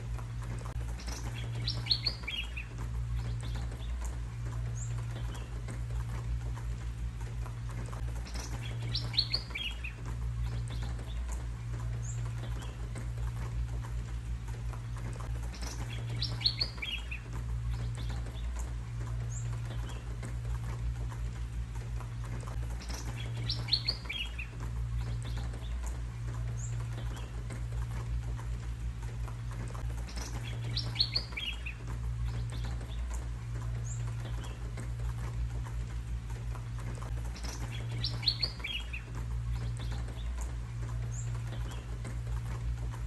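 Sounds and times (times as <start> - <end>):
birds chirping: 0.0 - 43.0
low hum: 0.0 - 43.0.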